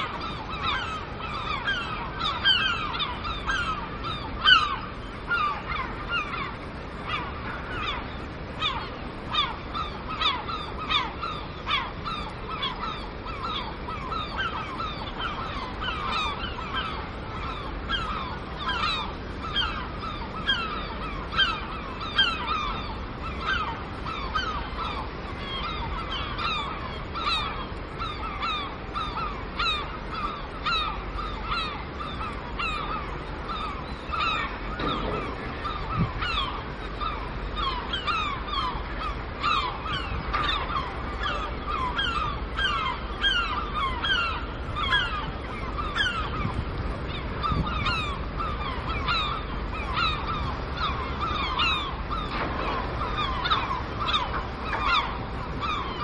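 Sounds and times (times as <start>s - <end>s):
gulls calling: 0.0s - 56.0s.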